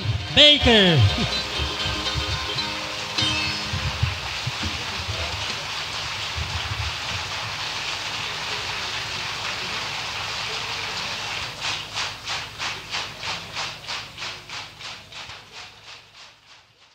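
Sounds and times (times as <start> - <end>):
audience applause: 0.0 - 16.9
clapping in unison: 0.4 - 16.9.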